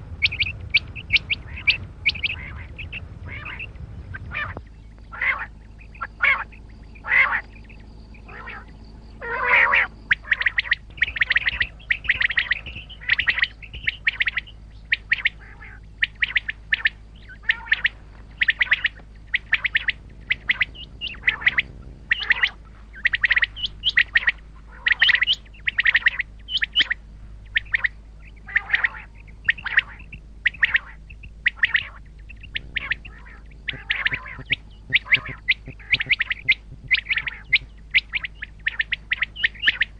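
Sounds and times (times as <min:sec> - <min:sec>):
faint low hum: 0:00.0 - 0:39.9
quail calling: 0:00.0 - 0:39.9.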